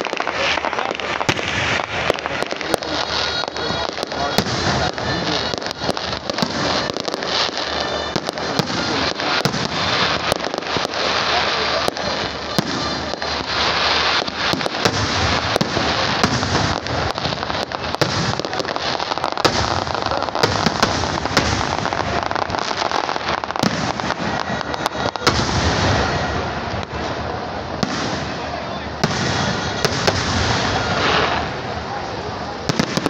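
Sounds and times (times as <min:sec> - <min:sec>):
fireworks bangs: 0:00.0 - 0:33.0
fireworks crackling and hissing: 0:00.0 - 0:33.0.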